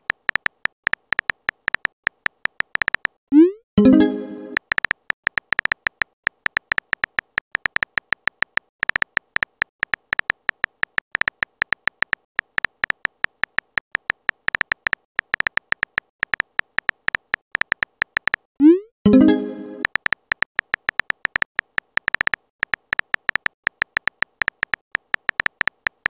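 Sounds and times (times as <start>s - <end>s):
phone keyboard typing clicks: 0.0s - 3.4s, 4.5s - 18.5s, 19.1s - 26.0s.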